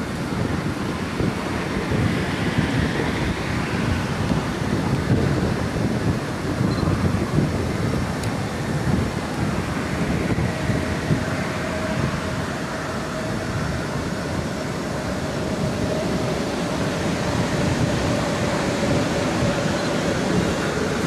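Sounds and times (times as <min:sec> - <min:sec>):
distant freight train on bridge: 0:00.0 - 0:21.0
wind buffeting microphone: 0:00.0 - 0:21.0.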